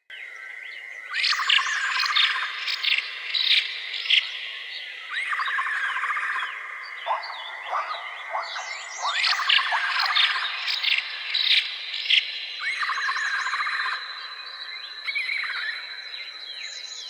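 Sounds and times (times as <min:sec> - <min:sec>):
birds chirping and calling: 0:00.2 - 0:17.0.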